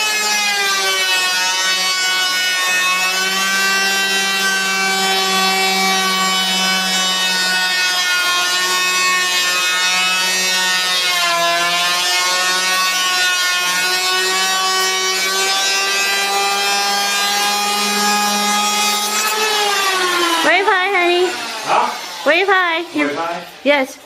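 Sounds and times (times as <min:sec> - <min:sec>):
electric planer shaving wood: 0:00.0 - 0:23.6.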